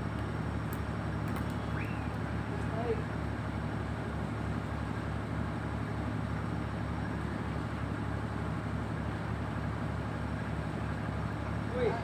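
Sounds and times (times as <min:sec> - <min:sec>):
ship engine humming: 0:00.0 - 0:12.0.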